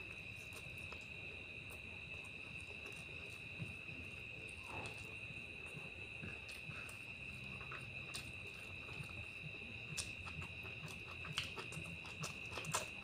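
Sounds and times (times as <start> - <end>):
person chewing: 0.0 - 13.0.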